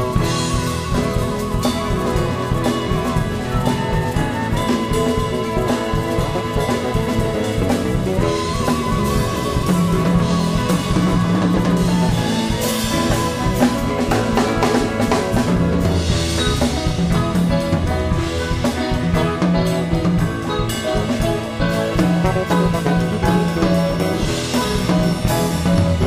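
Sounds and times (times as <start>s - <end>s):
bass: 0.0s - 26.0s
congas: 0.0s - 26.0s
drum kit beat: 0.0s - 26.0s
flute line: 0.0s - 26.0s
keyboards: 0.0s - 26.0s.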